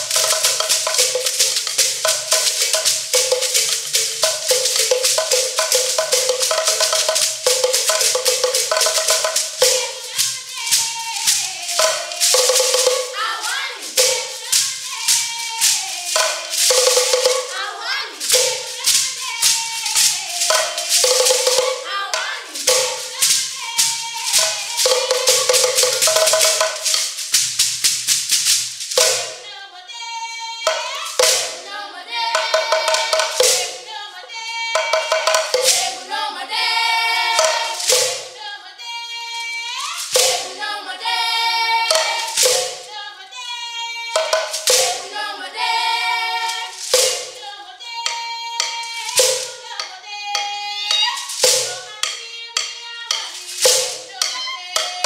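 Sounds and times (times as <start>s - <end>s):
group of voices singing: 0.0s - 27.2s, 29.0s - 55.0s
gourd rattle shaking: 0.0s - 29.4s, 30.8s - 38.4s, 39.3s - 43.2s, 44.1s - 55.0s
drum beaten with a stick: 0.0s - 29.5s, 30.7s - 38.5s, 40.0s - 43.1s, 44.1s - 55.0s.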